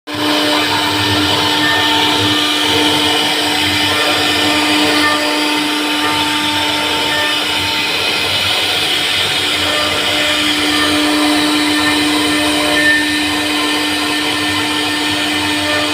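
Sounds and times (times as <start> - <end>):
router spindle whining cutting wood: 0.1 - 15.9.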